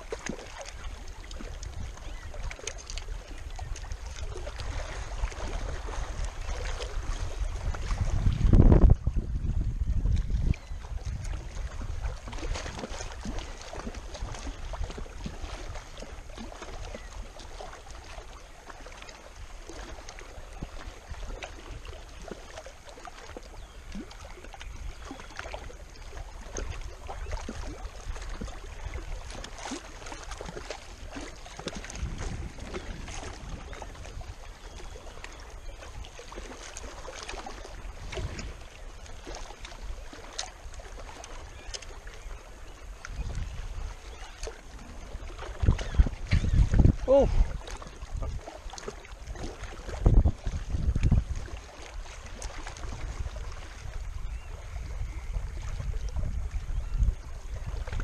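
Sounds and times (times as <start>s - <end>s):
wind on microphone: 0.0s - 18.4s, 23.6s - 58.0s.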